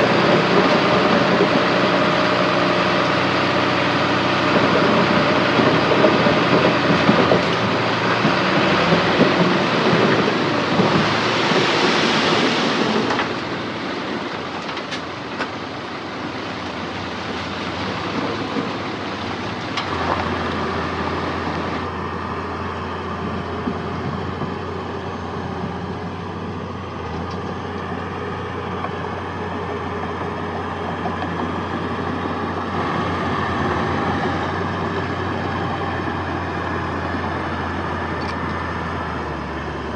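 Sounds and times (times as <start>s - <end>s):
engines humming low: 0.0s - 39.9s
heavy diesel machinery clattering: 0.0s - 39.9s.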